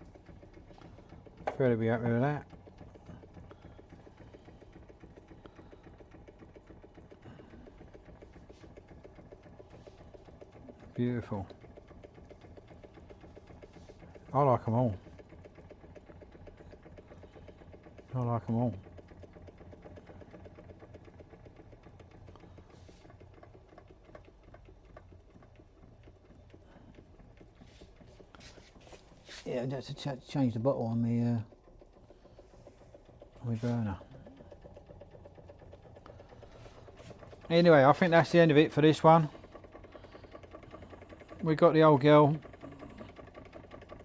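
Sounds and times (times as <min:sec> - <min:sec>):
model steam engine ticking and chuffing: 0:00.0 - 0:44.0.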